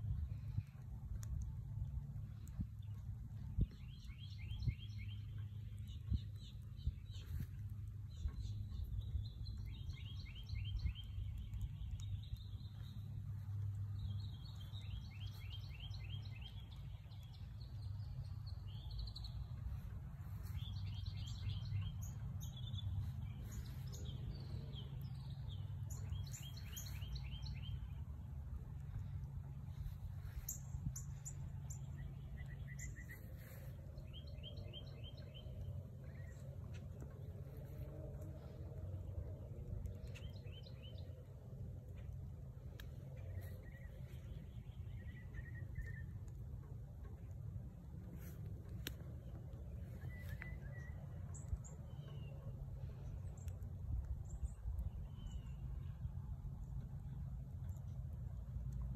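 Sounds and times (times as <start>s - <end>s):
songbirds chirping: 0.0s - 58.9s
steady low rumble: 0.0s - 58.9s.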